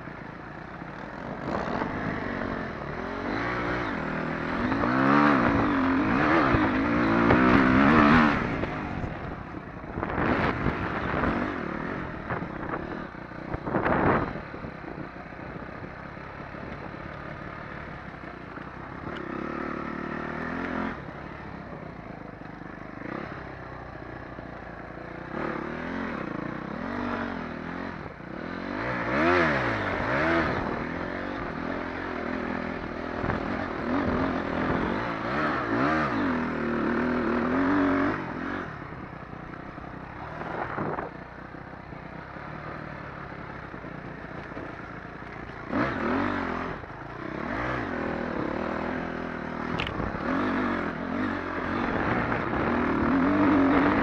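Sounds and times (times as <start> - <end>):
dirt bike engine revving: 0.9 - 15.0, 22.9 - 23.6, 25.2 - 54.0.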